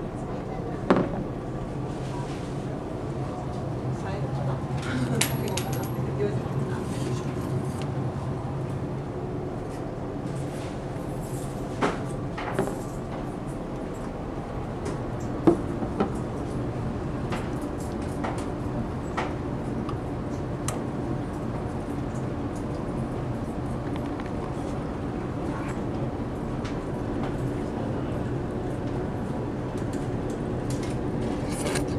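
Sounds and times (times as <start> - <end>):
low machinery hum: 0.0 - 31.9.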